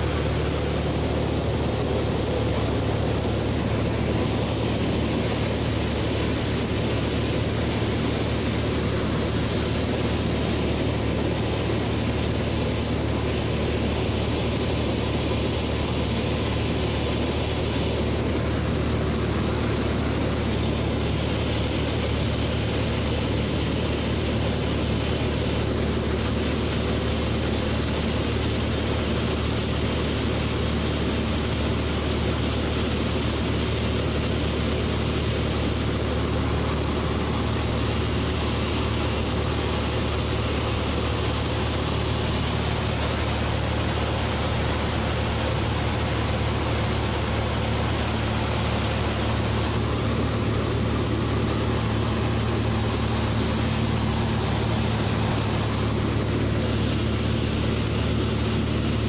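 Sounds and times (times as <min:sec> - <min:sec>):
airplane engine droning: 0:00.0 - 0:59.0
rush of air noise: 0:00.0 - 0:59.0.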